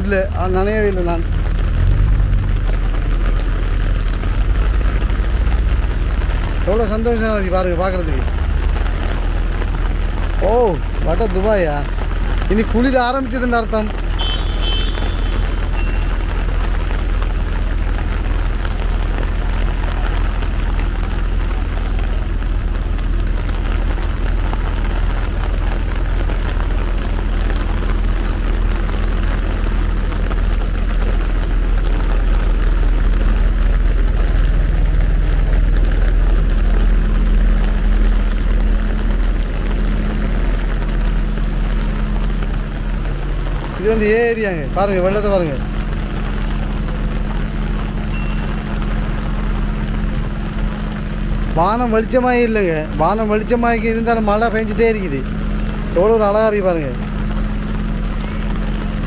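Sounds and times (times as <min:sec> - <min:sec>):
low rumble: 0:00.0 - 0:12.6, 0:15.1 - 0:56.2
rain falling on wet pavement: 0:00.0 - 0:59.0.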